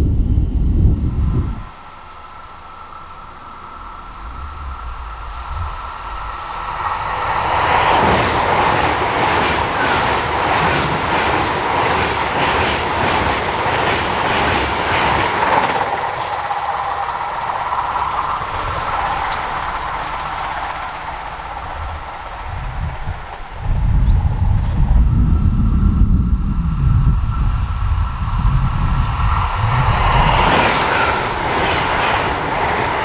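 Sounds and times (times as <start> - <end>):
train whine: 0.0 - 33.0
train wheels clattering: 1.7 - 33.0.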